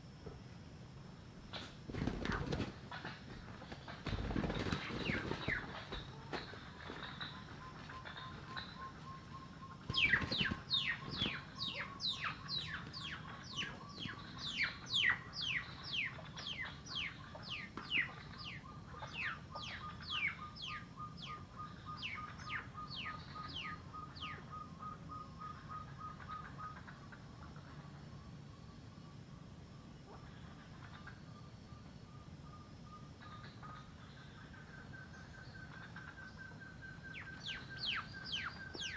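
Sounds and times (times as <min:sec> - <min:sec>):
partridge whistled calls: 0:03.0 - 0:38.9.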